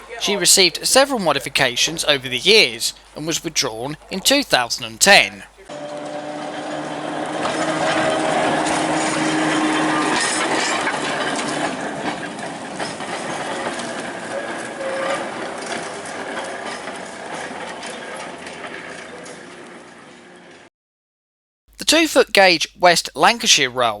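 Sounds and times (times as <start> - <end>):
tram wheels clattering on rail: 0.0 - 20.7.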